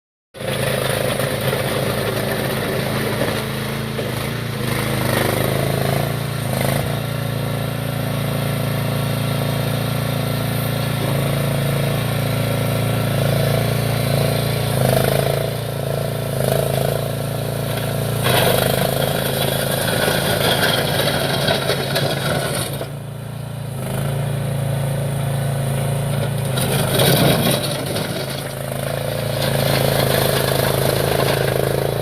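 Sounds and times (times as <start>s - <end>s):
small engine running steadily: 0.4s - 32.0s.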